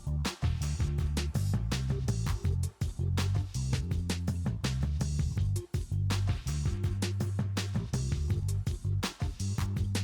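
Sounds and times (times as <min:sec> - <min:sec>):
bass: 0:00.0 - 0:10.0
drums: 0:00.0 - 0:10.0.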